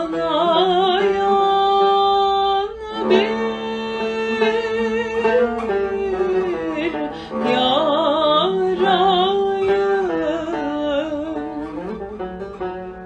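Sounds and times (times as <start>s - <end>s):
person singing with vibrato: 0.0s - 11.8s
plucked string accompaniment: 0.0s - 13.0s.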